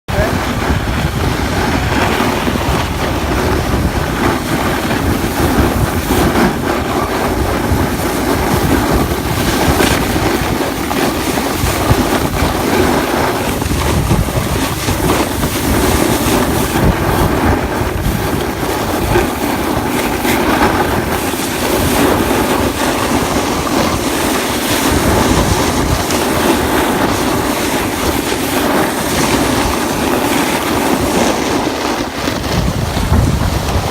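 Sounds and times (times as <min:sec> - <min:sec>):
wind on microphone: 0:00.1 - 0:33.9
snowboard scraping across snow: 0:00.2 - 0:33.9.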